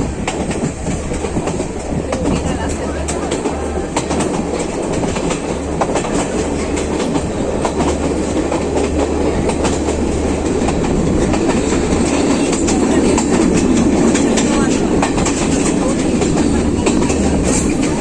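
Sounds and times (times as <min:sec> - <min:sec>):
train rumbling on rails: 0:00.0 - 0:18.0
wheels clicking and clacking: 0:00.0 - 0:18.0.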